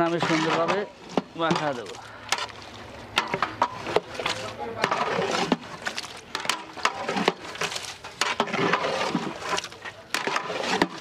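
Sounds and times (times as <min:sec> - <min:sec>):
wet squelching and scraping: 0:00.0 - 0:11.0.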